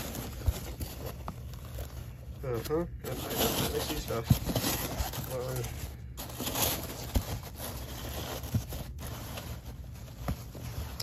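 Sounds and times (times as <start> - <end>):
paper towels rustling: 0.0 - 11.0.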